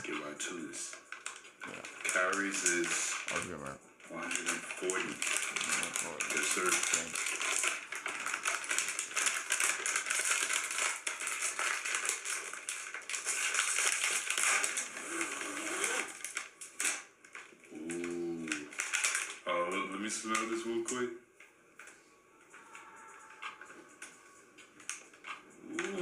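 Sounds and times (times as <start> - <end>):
plastic wrapper crinkling: 0.9 - 21.0, 24.8 - 26.0.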